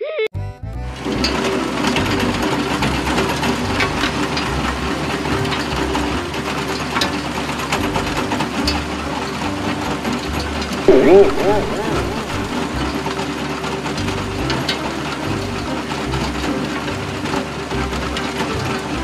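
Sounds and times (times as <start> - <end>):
construction vehicle engine running: 0.6 - 19.0
fast mechanical rattle: 1.0 - 19.0.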